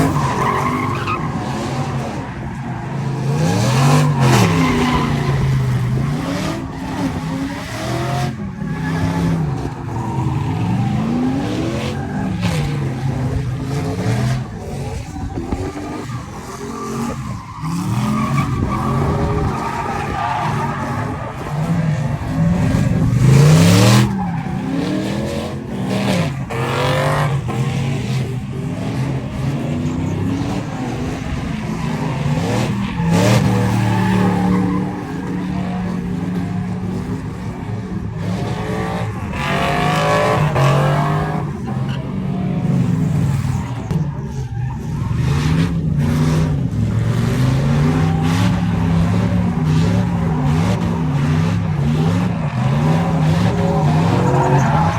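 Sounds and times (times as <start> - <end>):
truck engine revving: 0.0 - 54.9.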